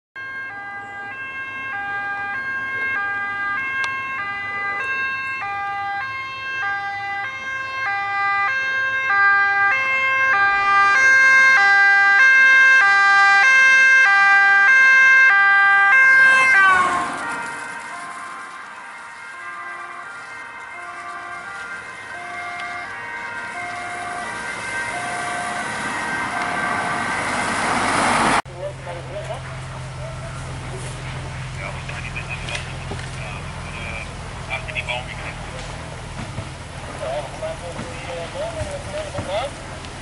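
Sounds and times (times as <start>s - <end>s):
two-tone police siren: 0.2s - 28.4s, 29.1s - 35.6s.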